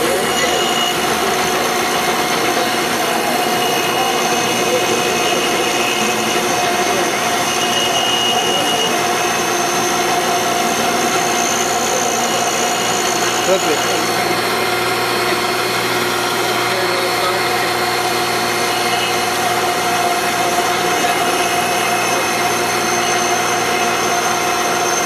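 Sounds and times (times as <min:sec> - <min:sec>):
bench grinder grinding metal: 0:00.0 - 0:25.0
grinding wheel squeal: 0:00.0 - 0:25.0.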